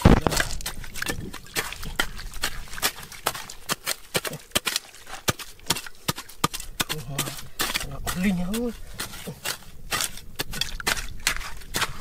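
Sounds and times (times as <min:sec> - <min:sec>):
digging tool striking rock: 0:00.0 - 0:12.0.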